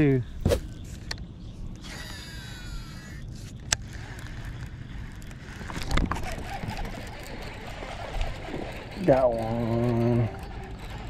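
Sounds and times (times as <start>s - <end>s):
fishing reel spool whirring: 1.8s - 11.0s.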